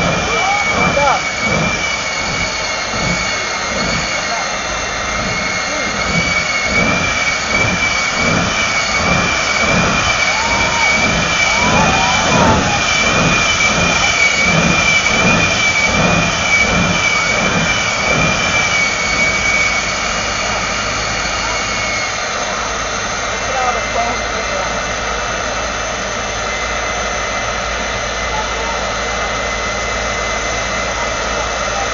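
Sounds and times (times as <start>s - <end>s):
jet engine whine and roar: 0.0s - 31.9s
low pulsing rumble: 0.0s - 31.9s.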